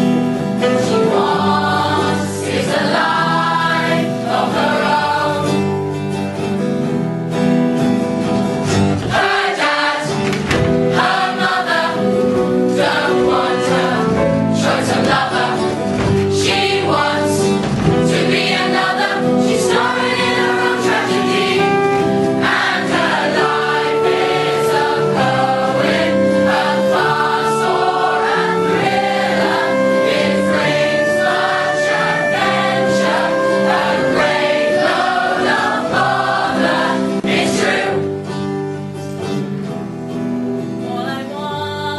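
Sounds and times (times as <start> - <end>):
chorus of voices singing: 0.0 - 6.0, 8.9 - 38.5.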